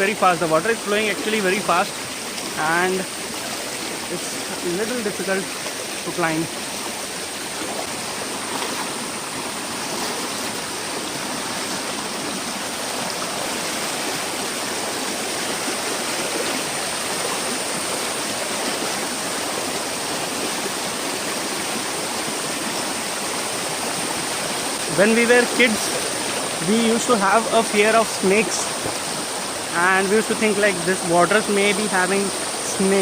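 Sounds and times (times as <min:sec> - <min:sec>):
water rushing down waterfall: 0:00.0 - 0:33.0.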